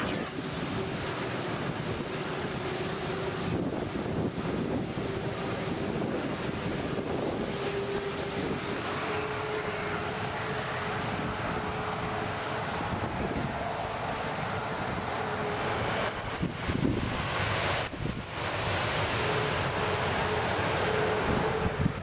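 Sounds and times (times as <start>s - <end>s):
jet engines whining while taxiing: 0.0s - 22.0s.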